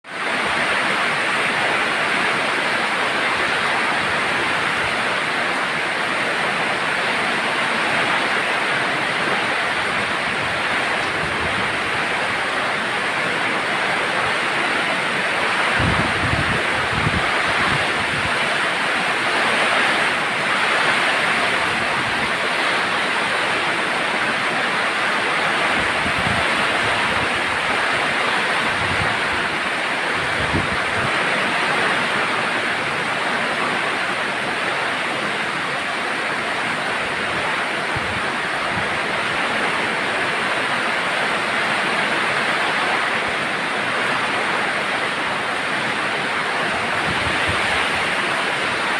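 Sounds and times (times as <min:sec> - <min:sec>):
rain falling in wind: 0:00.0 - 0:48.9.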